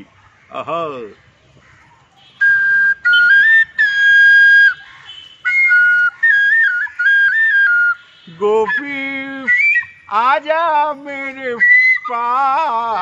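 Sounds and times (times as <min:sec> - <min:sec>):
bamboo flute melody: 0:02.4 - 0:13.0.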